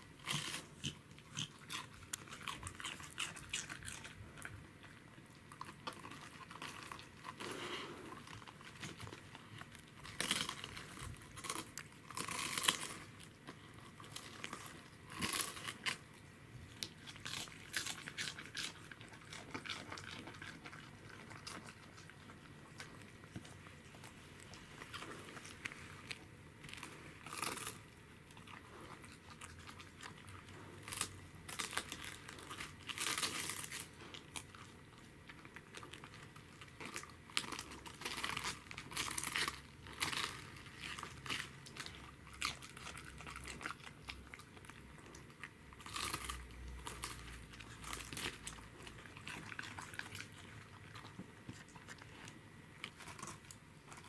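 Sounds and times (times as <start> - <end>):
dog chewing crisp cabbage: 0.0 - 54.0.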